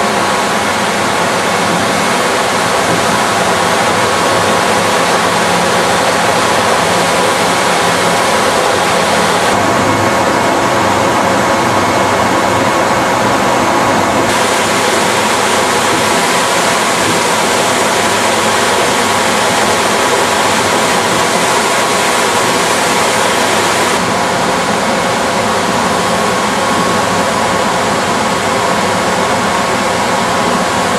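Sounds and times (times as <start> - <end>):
centrifuge whirring: 0.0 - 27.0
constant machine hum: 0.0 - 30.9.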